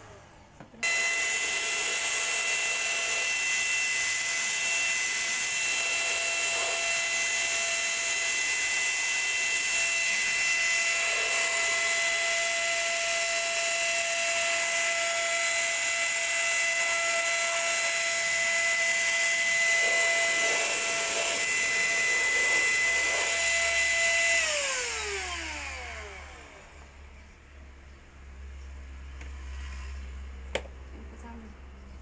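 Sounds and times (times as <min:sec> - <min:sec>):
electric spray gun whining: 0:00.8 - 0:26.8.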